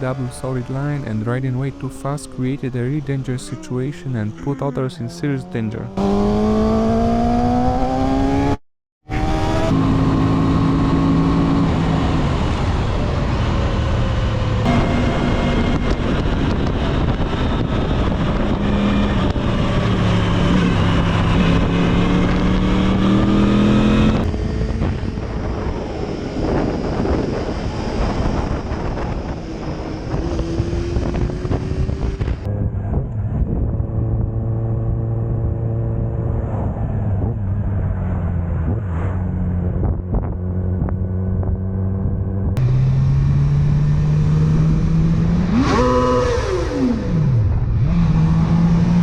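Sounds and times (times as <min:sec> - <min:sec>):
motorcycle engine revving: 0:00.0 - 0:49.0
road and wind noise: 0:00.0 - 0:49.0.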